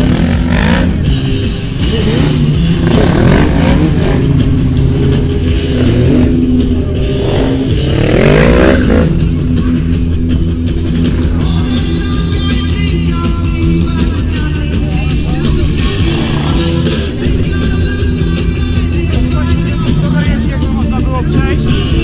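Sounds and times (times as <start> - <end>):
loud music: 0.0 - 22.0
motorcycle engine revving: 0.0 - 22.0.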